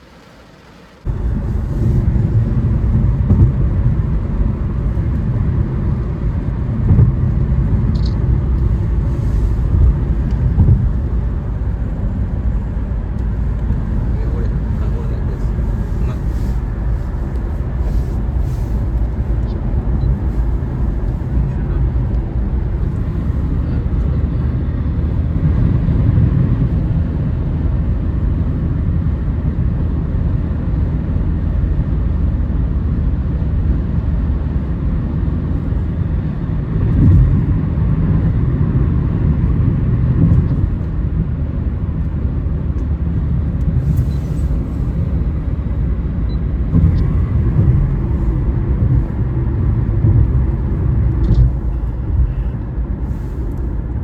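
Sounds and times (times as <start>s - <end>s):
car driving rumble from inside: 0.0s - 54.0s.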